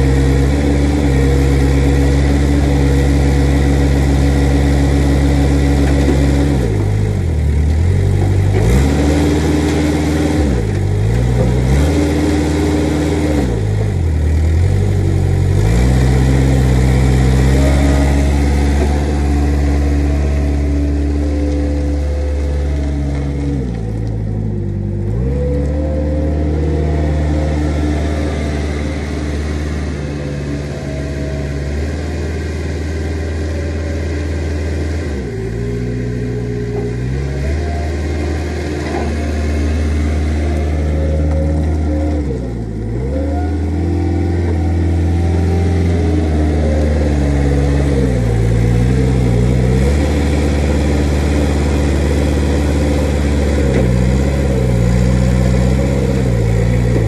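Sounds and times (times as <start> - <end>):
forklift engine revving: 0.0 - 57.0.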